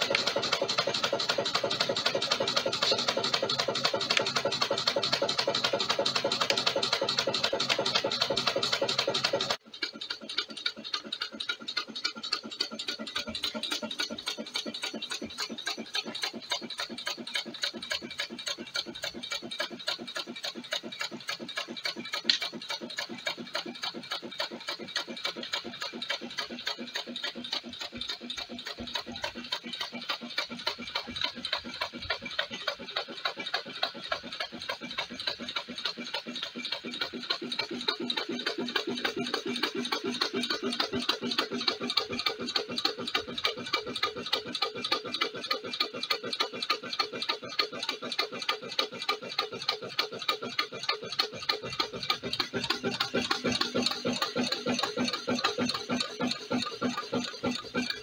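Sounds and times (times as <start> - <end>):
engine rhythmic piston beat: 0.0 - 58.0.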